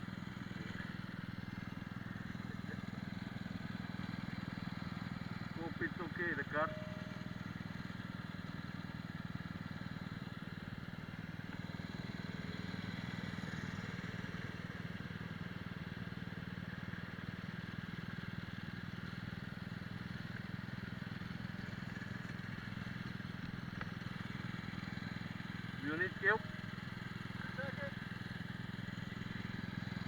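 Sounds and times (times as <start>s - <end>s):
kart engine idling: 0.0s - 30.0s.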